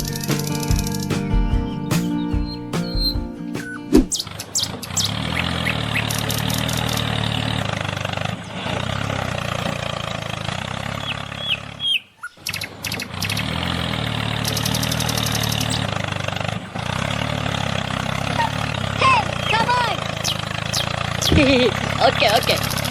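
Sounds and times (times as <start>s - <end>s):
bird chirps: 0.0s - 22.9s
small engine running: 4.2s - 22.9s.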